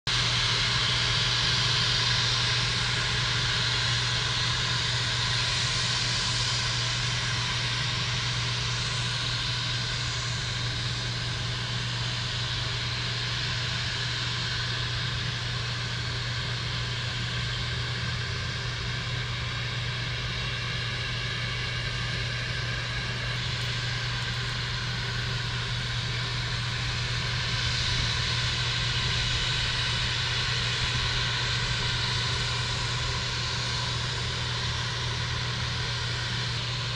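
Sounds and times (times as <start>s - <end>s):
jet engine rushing hiss: 0.1s - 36.9s.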